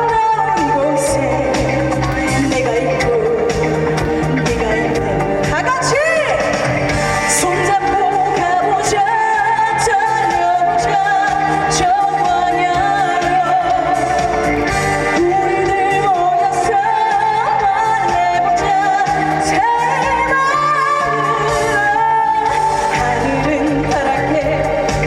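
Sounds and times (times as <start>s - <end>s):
band playing: 0.0s - 25.0s
woman singing: 0.0s - 25.0s.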